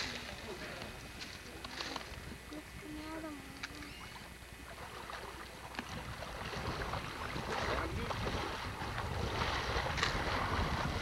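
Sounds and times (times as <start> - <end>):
water sloshing and splashing: 1.2 - 11.0.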